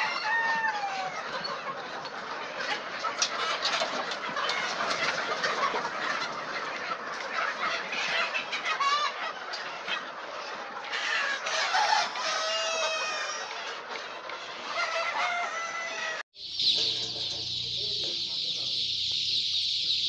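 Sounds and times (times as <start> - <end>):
long drawn-out chicken call: 0.0 - 16.2
chickens clucking: 0.0 - 20.0.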